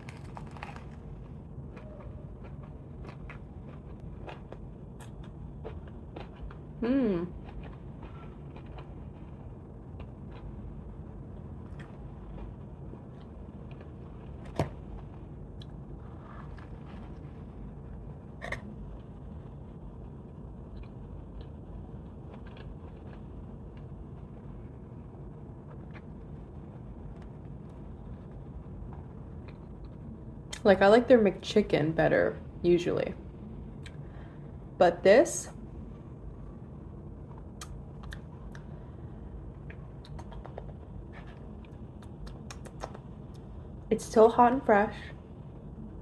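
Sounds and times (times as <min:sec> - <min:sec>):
low room hum: 0:00.0 - 0:46.0.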